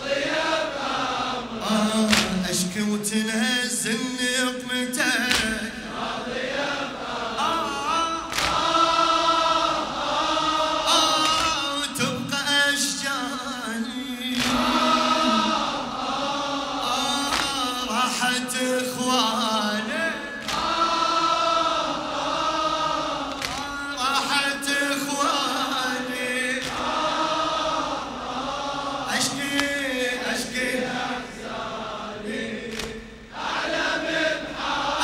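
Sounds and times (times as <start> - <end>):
men chanting in unison: 0.0 - 35.0.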